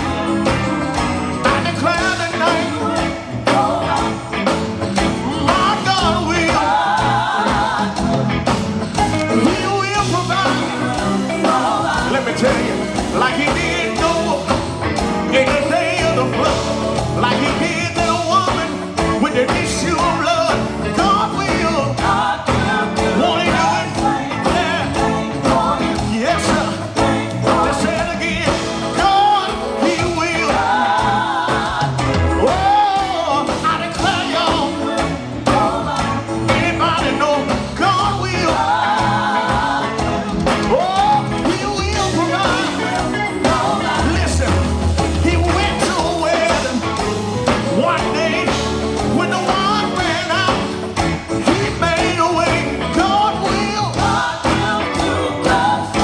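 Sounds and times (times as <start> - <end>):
bass: 0.0 - 56.0
electric guitar: 0.0 - 56.0
gospel quartet singing: 0.0 - 56.0
keyboard: 0.0 - 56.0.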